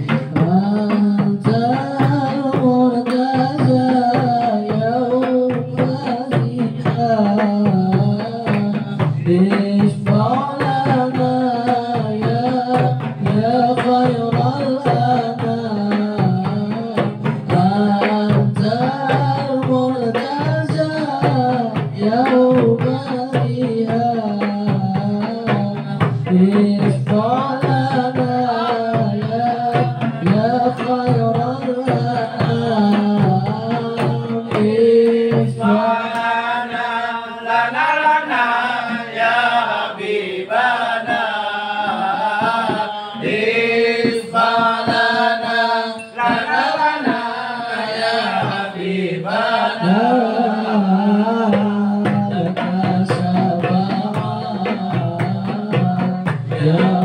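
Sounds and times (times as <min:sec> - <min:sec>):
frame drums beating: 0:00.0 - 0:37.1, 0:37.8 - 0:57.0
men singing together: 0:00.0 - 0:57.0.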